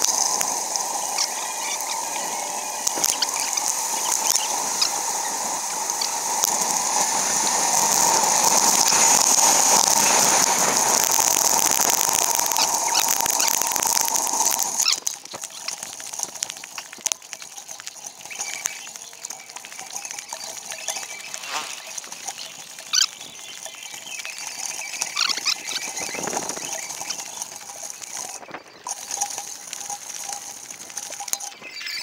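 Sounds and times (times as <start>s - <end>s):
fast clicks and ticks: 0.0s - 32.0s
sped-up wind and road noise: 0.0s - 32.0s.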